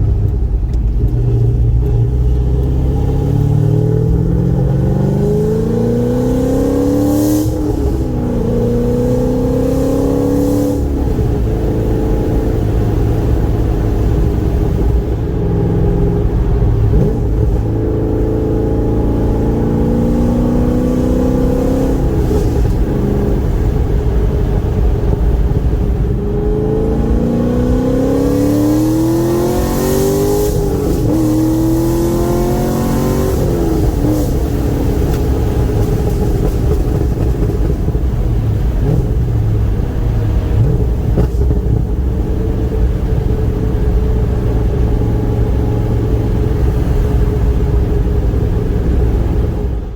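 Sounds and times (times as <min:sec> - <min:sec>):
car engine accelerating: 0:00.0 - 0:49.9
road rumble: 0:00.0 - 0:49.9.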